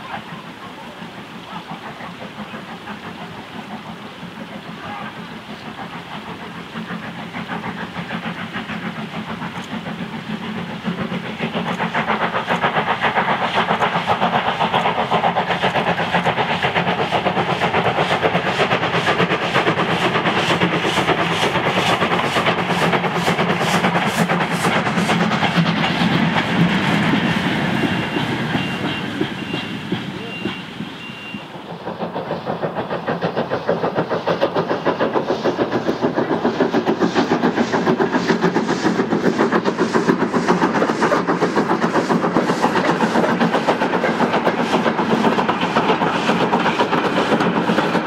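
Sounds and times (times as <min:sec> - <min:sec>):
steam locomotive exhaust beats: 0:00.0 - 0:48.0.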